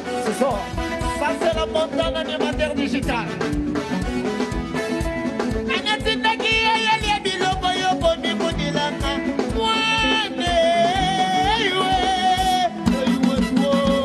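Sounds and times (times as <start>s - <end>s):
live band music: 0.0s - 14.0s
quick steady drum beat: 0.0s - 14.0s.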